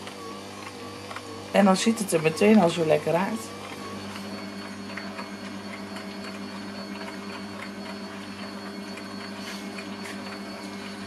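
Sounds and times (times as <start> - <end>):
stand mixer motor humming: 0.0 - 11.0.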